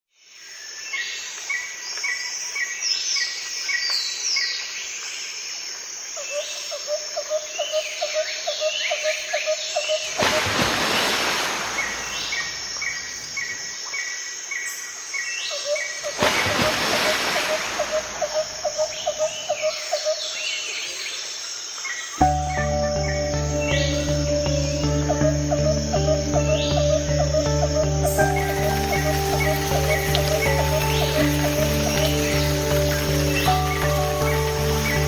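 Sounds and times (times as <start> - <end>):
songbirds chirping: 0.2 - 35.0.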